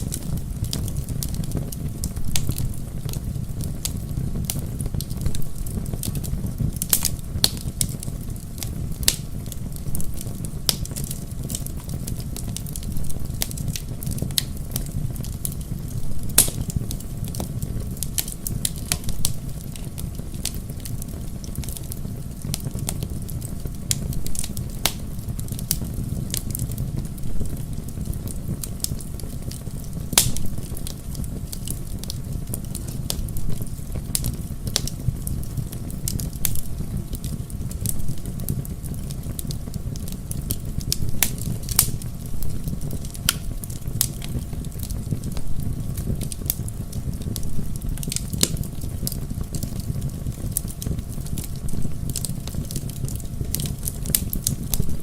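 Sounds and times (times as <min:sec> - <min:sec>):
logs crackling and popping: 0:00.0 - 0:55.0
rush of flame: 0:00.0 - 0:55.0.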